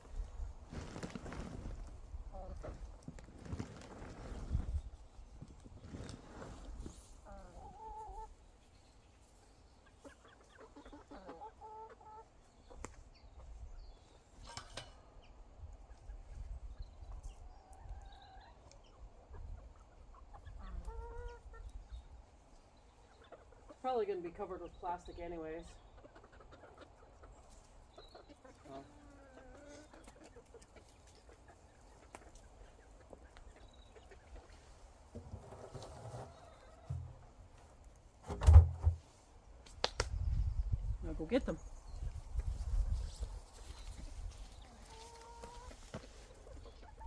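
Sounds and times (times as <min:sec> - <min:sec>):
chickens clucking: 0:00.1 - 0:03.3, 0:06.6 - 0:38.2, 0:40.3 - 0:47.0.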